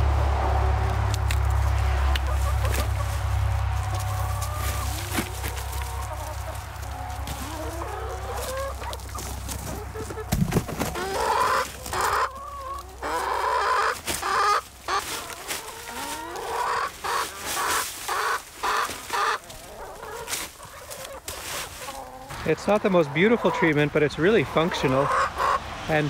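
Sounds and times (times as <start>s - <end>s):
hens clucking and squawking: 0.0s - 26.0s
compost dumping and bag rustling: 1.0s - 25.0s.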